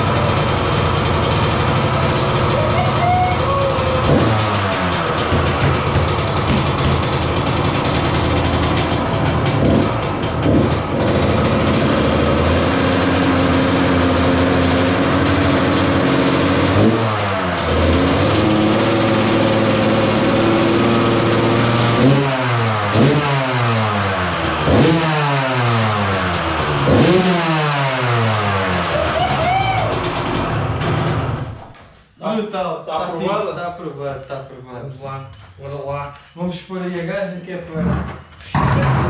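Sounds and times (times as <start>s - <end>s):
engine revving: 0.0s - 31.6s, 37.8s - 39.0s
two-stroke engine idling unevenly: 0.0s - 31.7s.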